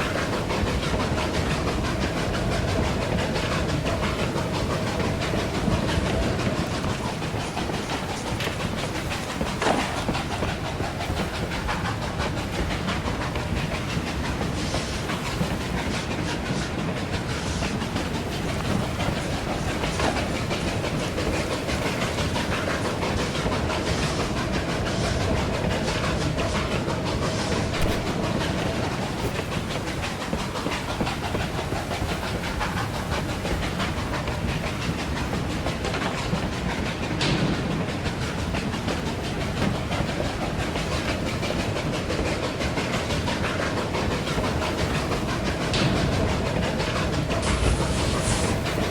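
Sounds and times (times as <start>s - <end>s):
steam locomotive rattling clatter: 0.0s - 48.9s.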